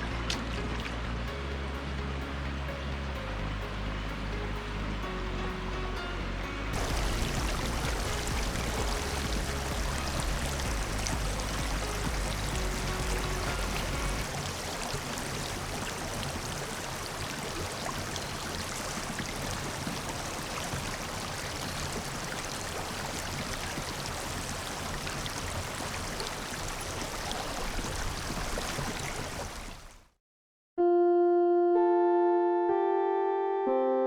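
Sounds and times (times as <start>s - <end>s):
flowing water: 0.0s - 6.0s, 6.7s - 30.1s.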